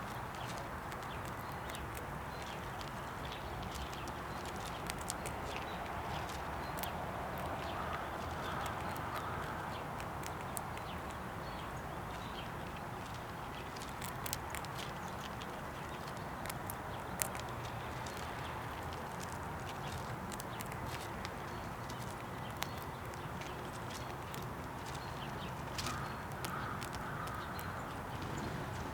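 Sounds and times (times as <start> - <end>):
squirrel cracking peanut shells: 0.0 - 28.5.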